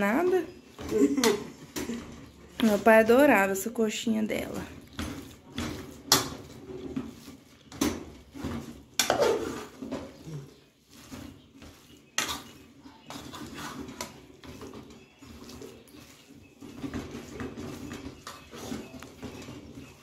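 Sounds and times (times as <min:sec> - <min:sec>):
spoon scraping cooking pot: 0:00.0 - 0:20.0.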